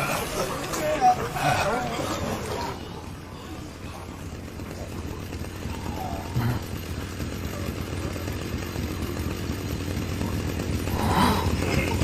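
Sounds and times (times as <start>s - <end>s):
chainsaw engine rumbling: 0.0s - 12.0s.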